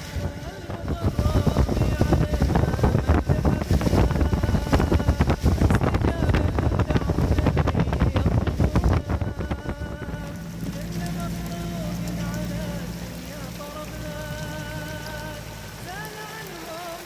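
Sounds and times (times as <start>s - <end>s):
wind buffeting the microphone: 0.0s - 16.2s
falling rain: 0.0s - 17.0s.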